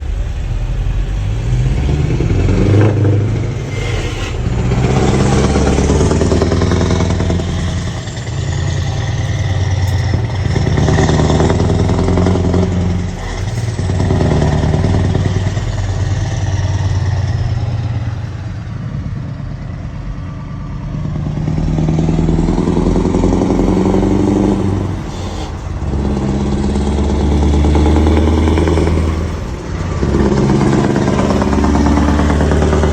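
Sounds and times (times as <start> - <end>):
diesel truck engine under load: 0.0 - 32.9.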